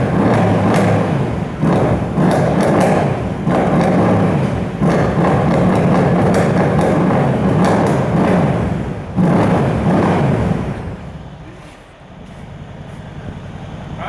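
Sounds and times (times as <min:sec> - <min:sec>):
loud engine revving and idling: 0:00.0 - 0:14.0.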